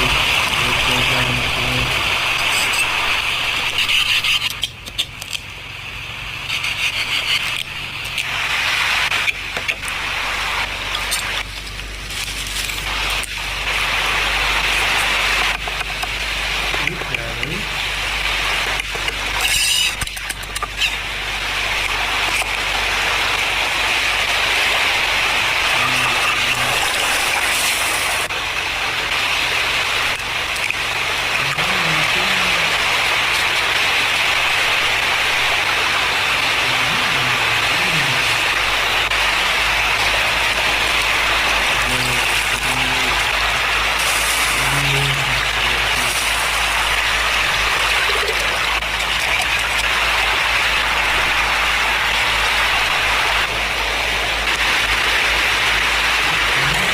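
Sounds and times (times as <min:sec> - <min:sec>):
steady rushing noise: 0:00.0 - 0:04.6, 0:05.4 - 0:56.9.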